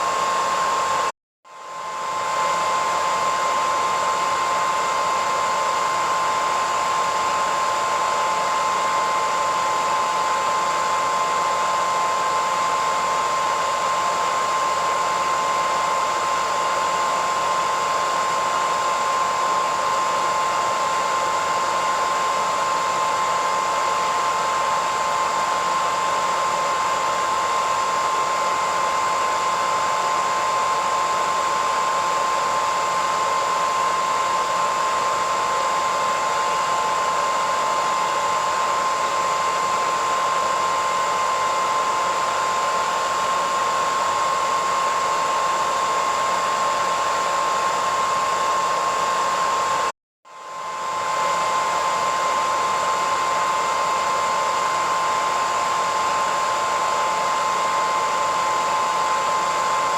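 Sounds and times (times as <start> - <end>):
hairdryer running: 0.0 - 59.9.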